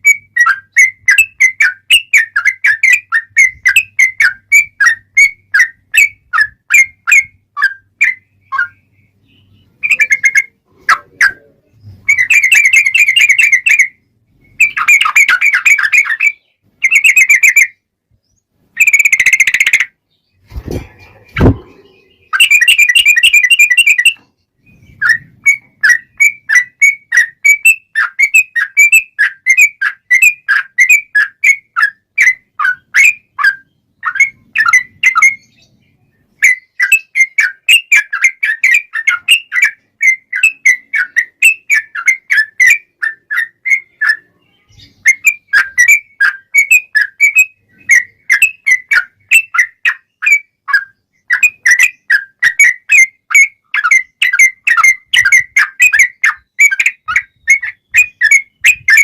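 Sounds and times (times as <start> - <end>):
bird trilling and chirping: 0.0 - 59.0.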